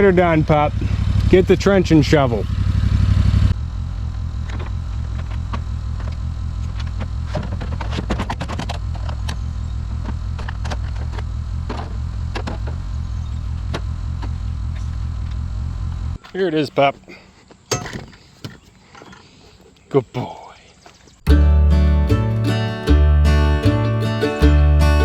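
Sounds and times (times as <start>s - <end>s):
small engine low rumble: 0.0s - 16.3s, 21.3s - 25.0s.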